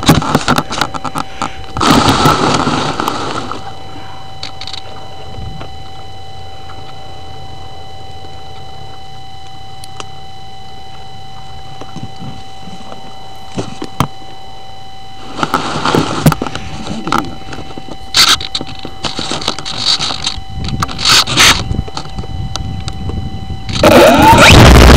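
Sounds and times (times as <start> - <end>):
thin electronic whine: 0.0 - 24.9.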